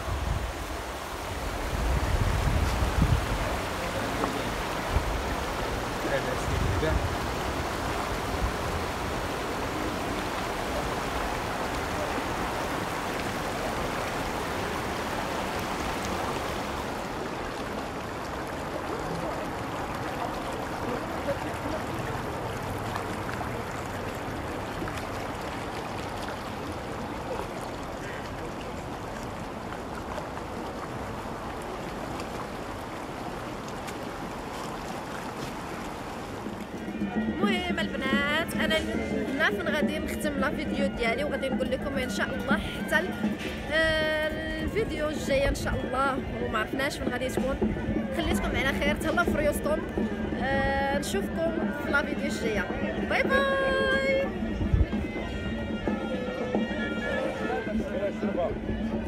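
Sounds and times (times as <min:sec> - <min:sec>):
river rushing over stones: 0:00.0 - 0:54.9.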